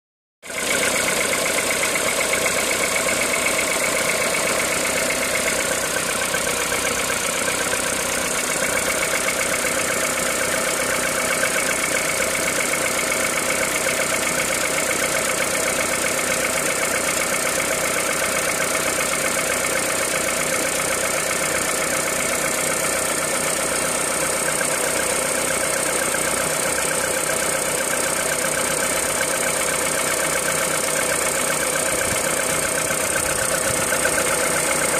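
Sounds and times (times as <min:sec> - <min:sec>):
car engine idling: 0:00.5 - 0:34.9.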